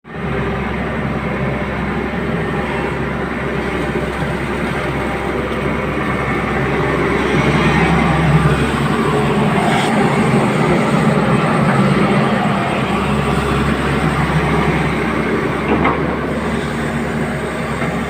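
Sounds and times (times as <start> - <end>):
excavator diesel engine droning: 0.1 - 18.0.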